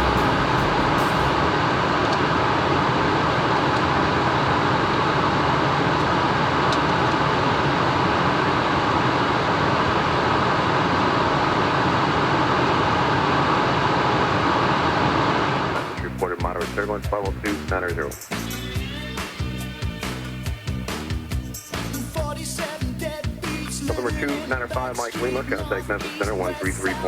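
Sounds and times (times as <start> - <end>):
jet cockpit rushing noise: 0.0 - 27.0.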